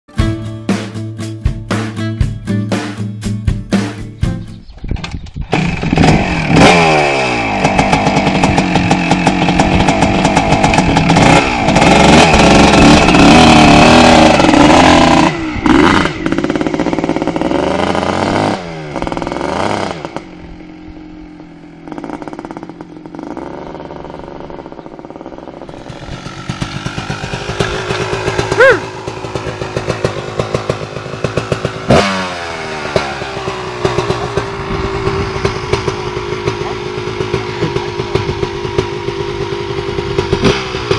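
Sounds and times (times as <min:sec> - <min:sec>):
dirt bike engine revving: 0:05.4 - 0:40.9.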